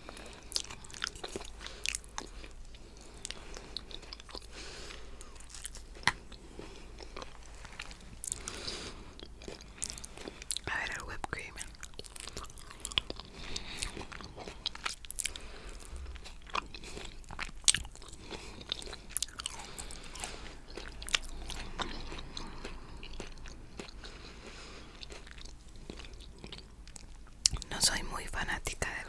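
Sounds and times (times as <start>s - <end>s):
wet chewing: 0.0s - 27.7s.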